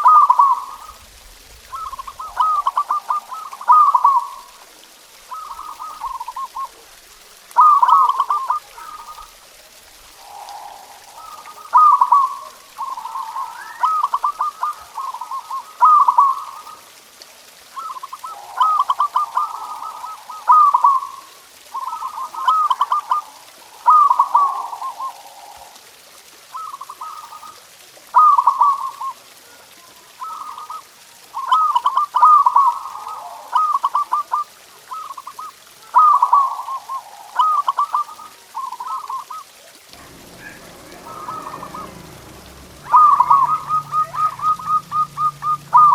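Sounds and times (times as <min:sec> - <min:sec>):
dove cooing: 0:00.0 - 0:00.9, 0:01.6 - 0:04.6, 0:05.2 - 0:17.0, 0:17.7 - 0:27.6, 0:28.2 - 0:30.8, 0:31.4 - 0:45.9.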